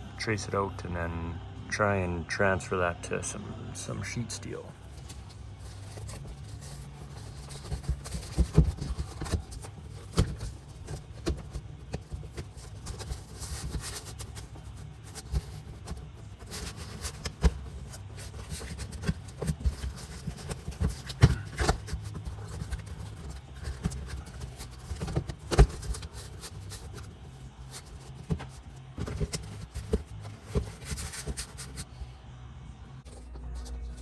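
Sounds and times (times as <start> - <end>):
cardboard rustling and scraping: 4.7 - 32.0, 33.0 - 34.0.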